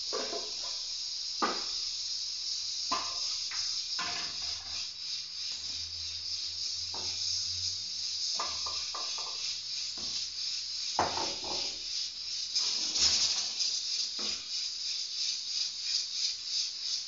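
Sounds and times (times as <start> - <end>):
pressure cooker steam hissing: 0.0 - 17.0.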